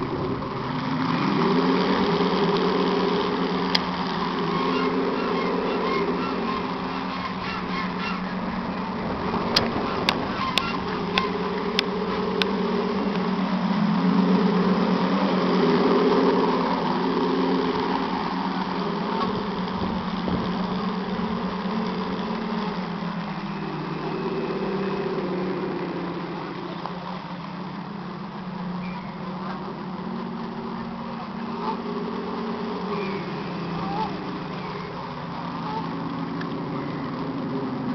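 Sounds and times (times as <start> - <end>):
buzzing engine drone: 0.0 - 37.9.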